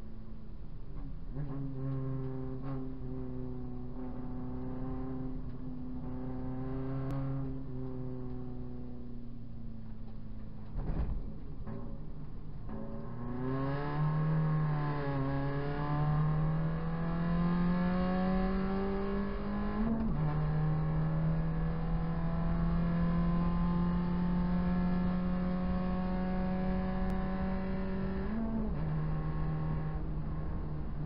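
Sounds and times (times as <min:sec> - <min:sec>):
race car engine accelerating: 0:01.4 - 0:08.8, 0:12.7 - 0:31.0.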